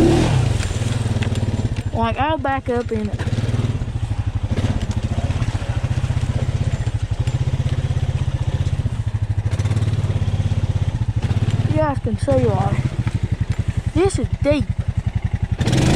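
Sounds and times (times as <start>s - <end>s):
atv engine puttering: 0.0s - 15.9s.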